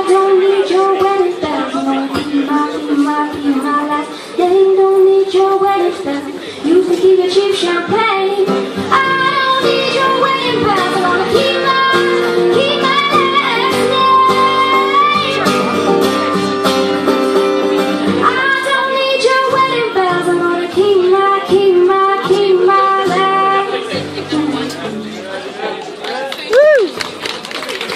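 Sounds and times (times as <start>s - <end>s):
girl singing: 0.0s - 15.8s, 18.1s - 24.8s
guitar accompaniment: 0.0s - 25.5s.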